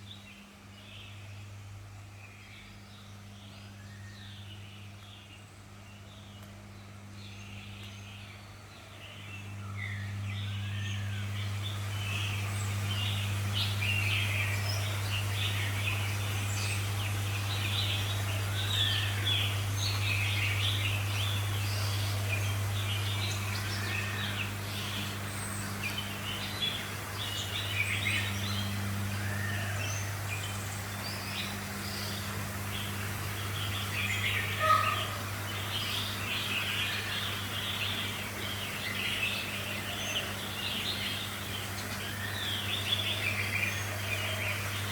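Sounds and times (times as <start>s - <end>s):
small birds chirping and twittering: 0.0s - 44.9s
steady low hum: 0.0s - 44.9s.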